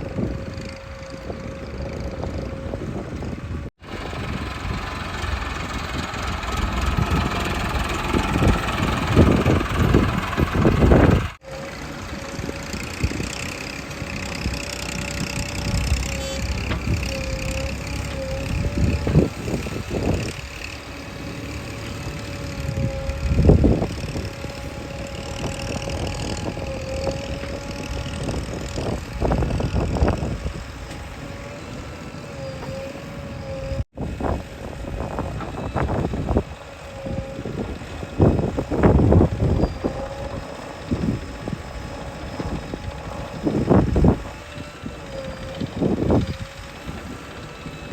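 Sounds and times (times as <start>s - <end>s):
diesel machinery engine surging: 0.0s - 47.9s.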